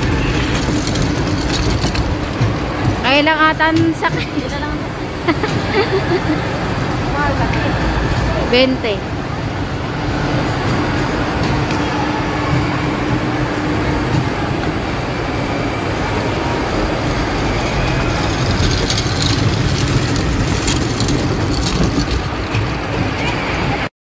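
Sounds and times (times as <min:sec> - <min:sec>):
indoor amusement hall din: 0:00.0 - 0:23.9
rattling train cars and rails: 0:00.0 - 0:23.9
ride train rumbling on track: 0:00.0 - 0:23.9.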